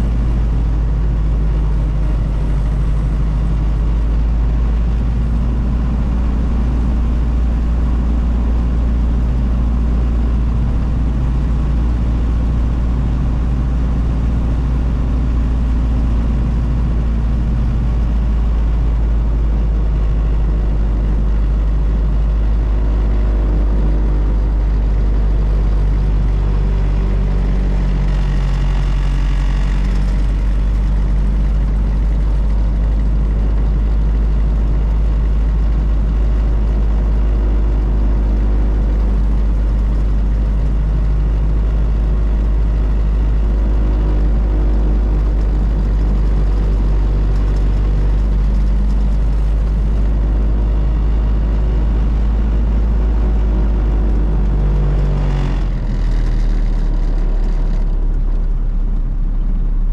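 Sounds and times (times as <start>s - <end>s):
car engine running: 0.0s - 59.9s
deep road rumble: 0.0s - 59.9s.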